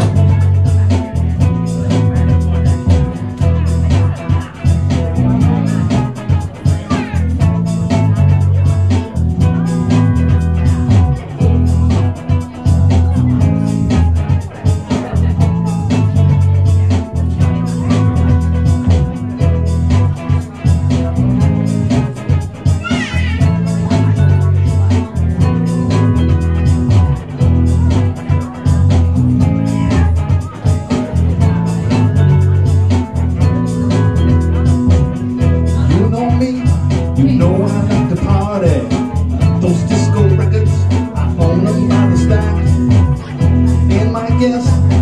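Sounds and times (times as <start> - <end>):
deep bass line: 0.0 - 45.0
electric guitar: 0.0 - 45.0
keyboard playing: 0.0 - 45.0
steady beat: 0.0 - 45.0.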